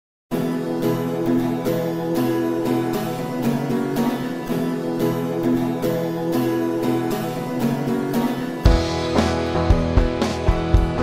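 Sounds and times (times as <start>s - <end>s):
instrumental guitar music with beat: 0.3s - 11.0s.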